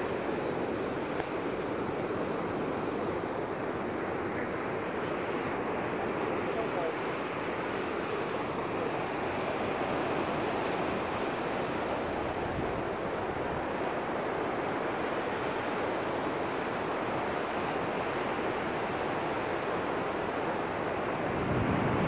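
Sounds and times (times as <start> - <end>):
surf breaking on a beach: 0.0 - 22.0.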